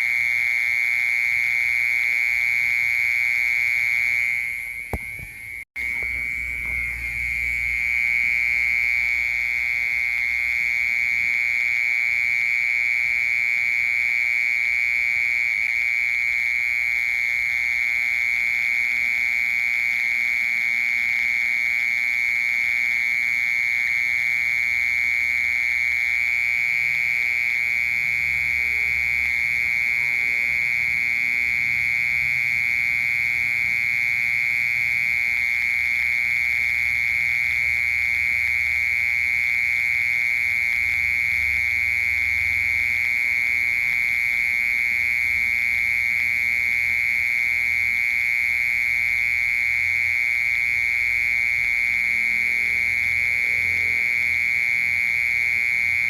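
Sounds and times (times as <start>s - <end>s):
cricket trilling: 0.0s - 56.0s.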